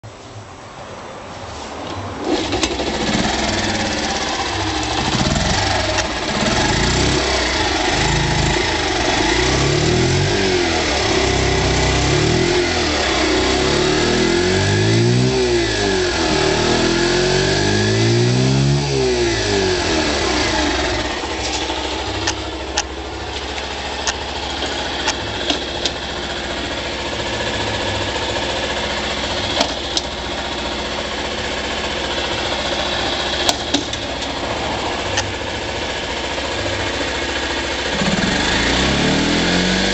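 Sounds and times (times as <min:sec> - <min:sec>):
motorcycle engine revving and idling: 0:02.2 - 0:39.9.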